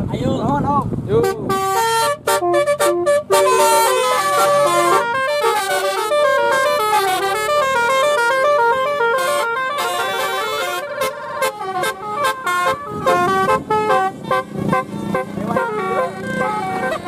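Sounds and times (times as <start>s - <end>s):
multi-tone car horn tune: 1.2s - 17.0s.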